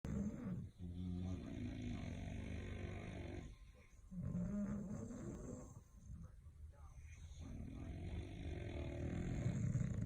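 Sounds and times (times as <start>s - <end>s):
dog snoring: 0.0s - 6.3s, 7.1s - 10.0s.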